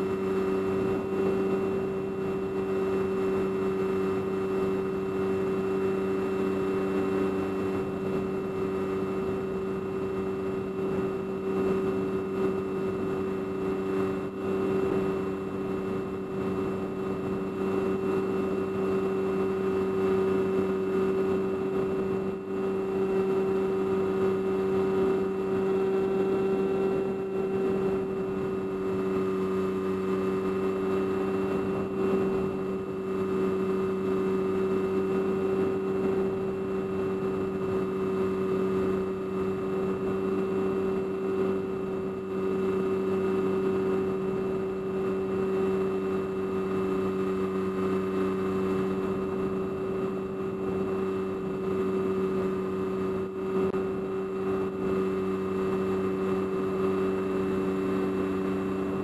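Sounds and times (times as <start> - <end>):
aircraft motor and propeller droning: 0.0 - 59.0.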